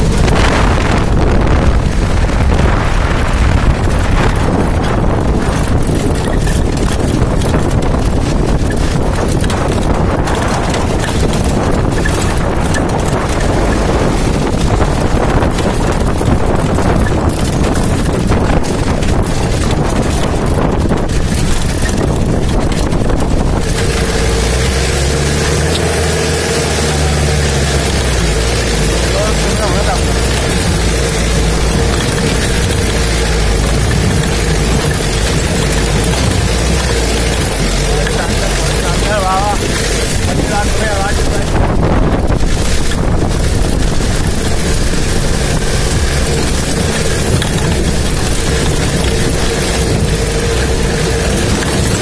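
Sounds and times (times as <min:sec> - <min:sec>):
engine low drone: 0:00.0 - 0:52.0
wind buffeting microphone: 0:00.0 - 0:52.0.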